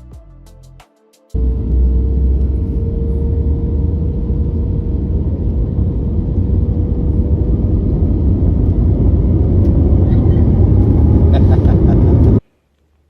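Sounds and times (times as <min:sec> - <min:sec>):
airplane drone: 0:01.4 - 0:12.4
airplane low rumble: 0:01.4 - 0:12.4.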